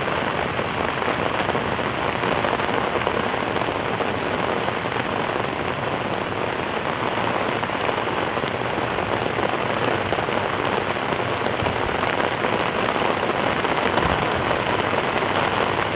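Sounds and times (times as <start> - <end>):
steady rain falling: 0.0 - 15.9.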